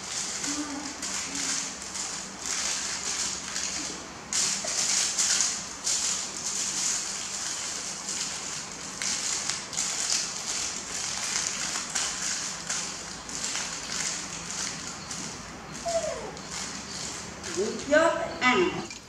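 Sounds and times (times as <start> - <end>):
aluminium foil crinkling: 0.0 - 19.0.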